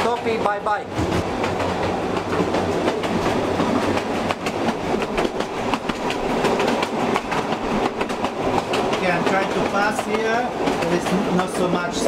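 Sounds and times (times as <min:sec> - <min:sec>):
train running rumble: 0:00.0 - 0:12.0
wheels knocking and rattling: 0:00.0 - 0:12.0.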